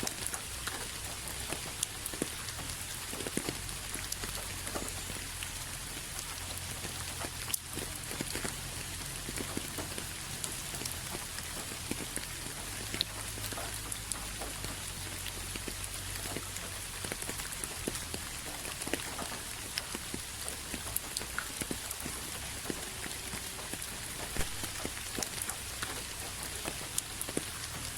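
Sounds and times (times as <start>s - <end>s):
raindrops ticking on a surface: 0.0s - 27.9s
steady rain falling: 0.0s - 27.9s.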